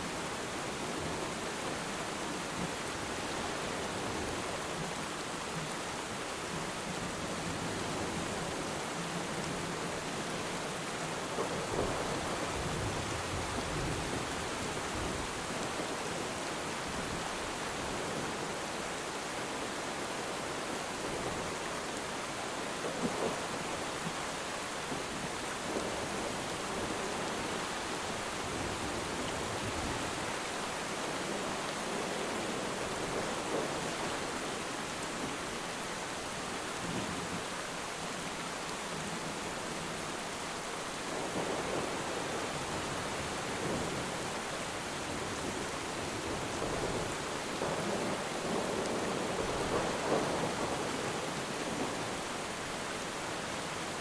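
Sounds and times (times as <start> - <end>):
rain falling on water: 0.0 - 54.0.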